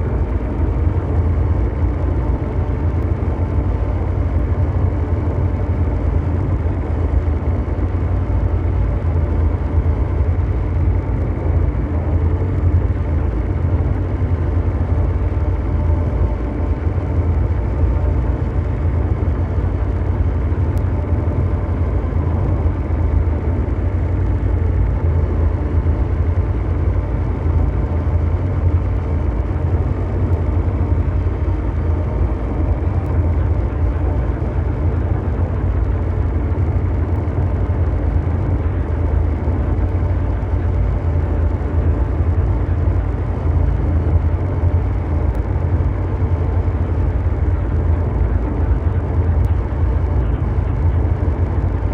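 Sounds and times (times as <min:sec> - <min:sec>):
deep mechanical rumble: 0:00.0 - 0:51.9
faint hum tones: 0:00.0 - 0:51.9.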